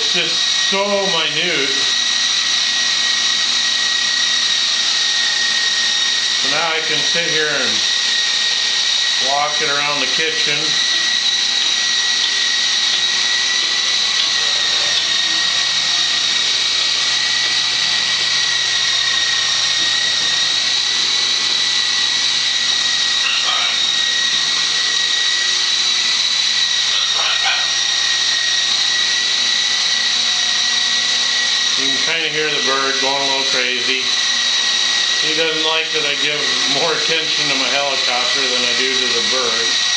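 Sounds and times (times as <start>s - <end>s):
model helicopter whine: 0.0s - 39.9s.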